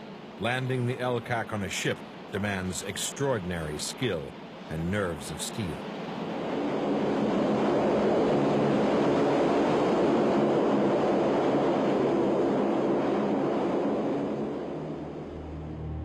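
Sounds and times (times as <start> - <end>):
hovercraft engines running: 0.0 - 16.0.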